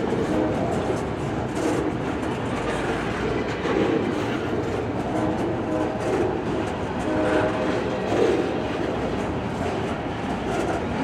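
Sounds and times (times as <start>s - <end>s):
diesel locomotives running: 0.0s - 11.0s
rail and wheel noise: 0.0s - 11.0s.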